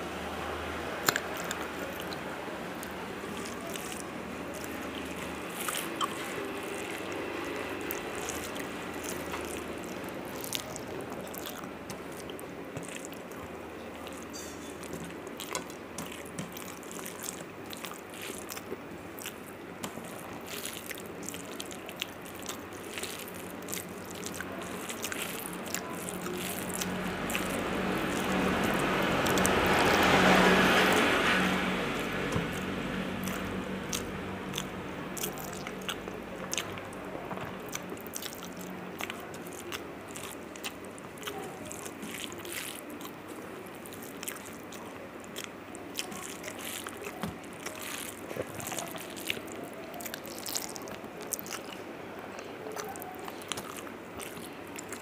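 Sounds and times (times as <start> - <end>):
broad noise: 0.0 - 55.0
wet squishing of fingers in rice: 0.1 - 55.0
chewing food: 0.5 - 55.0.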